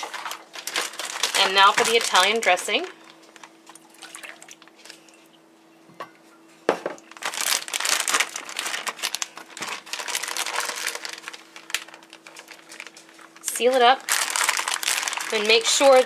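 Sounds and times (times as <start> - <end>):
plastic bag crinkling and rustling: 0.0 - 5.0, 7.1 - 16.0.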